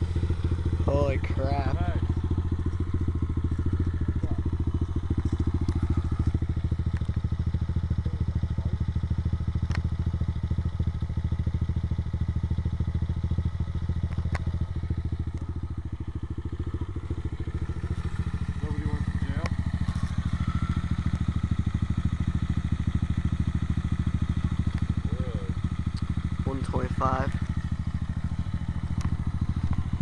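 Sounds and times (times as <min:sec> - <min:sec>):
motorbike engine idling: 0:00.0 - 0:30.0.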